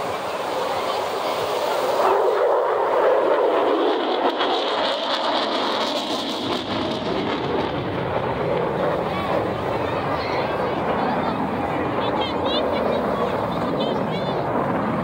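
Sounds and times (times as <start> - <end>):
jet flying past: 0.0 - 15.0.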